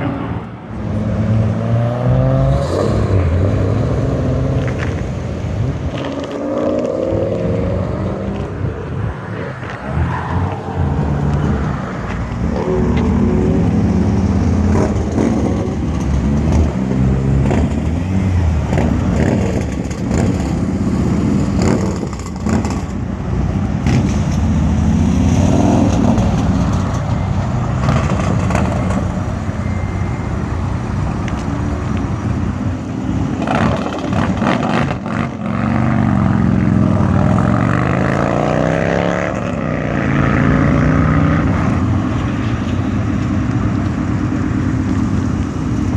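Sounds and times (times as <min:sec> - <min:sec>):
car engines accelerating past: 0:00.0 - 0:22.9, 0:23.7 - 0:45.9.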